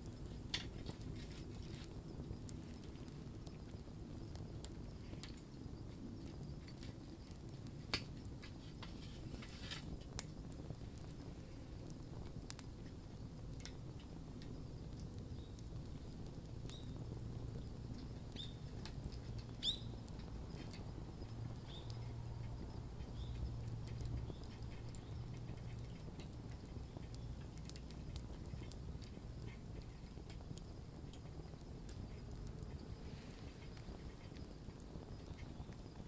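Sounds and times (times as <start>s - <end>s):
campfire crackling: 0.0s - 36.0s
low rumble of fire: 0.0s - 36.0s.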